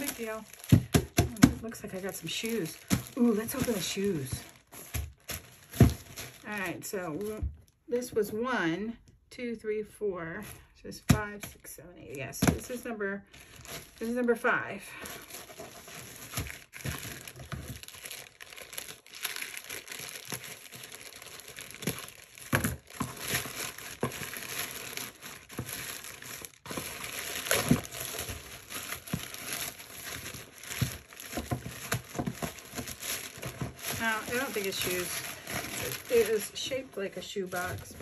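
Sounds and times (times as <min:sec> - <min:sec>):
plastic bag crinkling: 0:00.0 - 0:07.8, 0:13.3 - 0:38.0.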